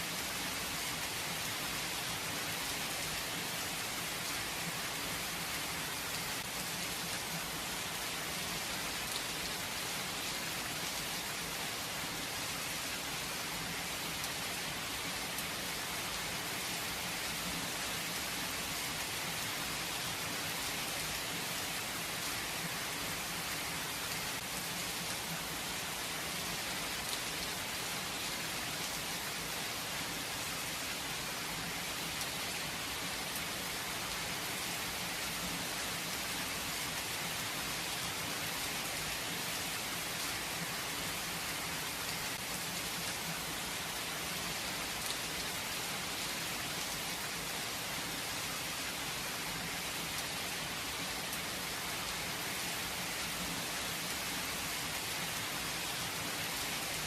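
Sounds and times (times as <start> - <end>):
rain pattering on a surface: 5.9 - 57.0.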